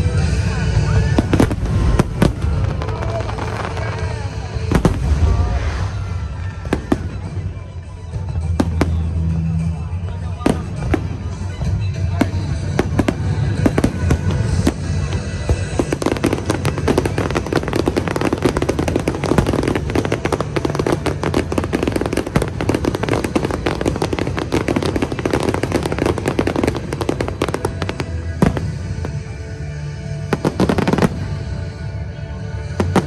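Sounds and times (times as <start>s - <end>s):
fireworks bangs and crackles: 0.0s - 33.0s
music playing: 0.0s - 33.0s.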